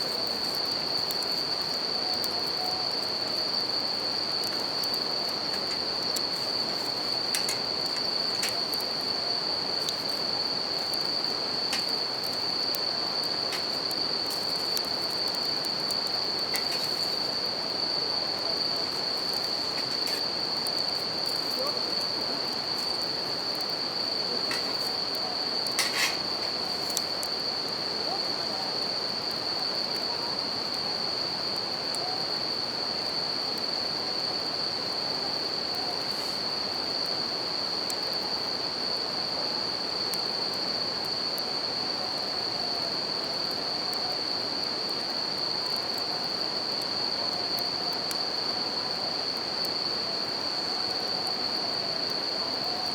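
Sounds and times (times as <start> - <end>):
campfire crackling: 0.0 - 52.9
crickets ringing: 0.0 - 52.9.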